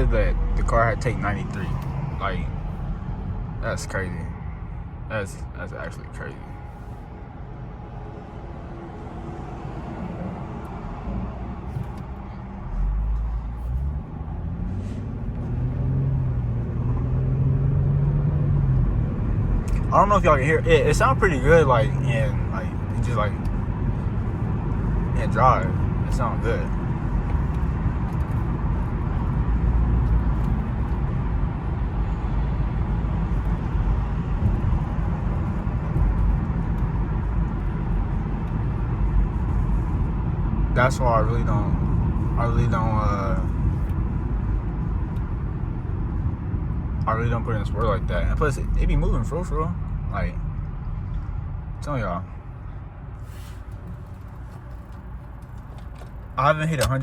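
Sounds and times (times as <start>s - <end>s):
car engine: 0.0s - 57.0s
road noise inside car: 0.0s - 57.0s.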